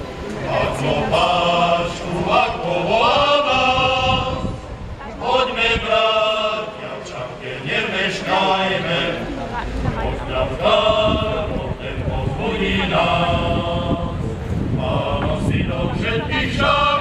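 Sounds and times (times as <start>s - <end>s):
male choir singing: 0.1s - 17.0s.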